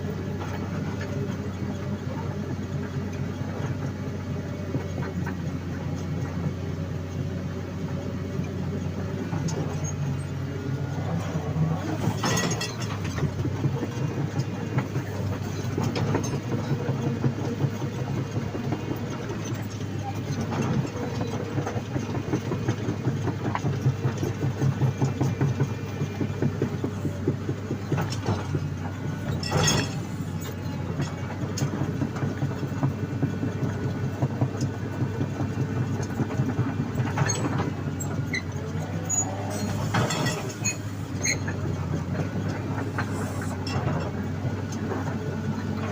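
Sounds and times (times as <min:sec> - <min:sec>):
excavator diesel engine running: 0:00.0 - 0:45.9
steel tracks clattering: 0:08.6 - 0:45.9.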